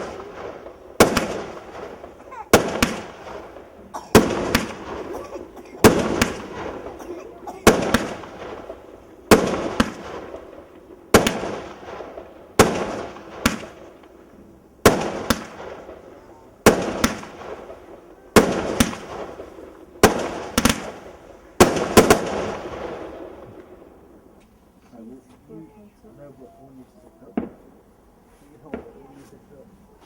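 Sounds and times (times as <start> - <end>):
fireworks bangs: 0.0 - 30.0
fireworks crackle: 0.0 - 30.0.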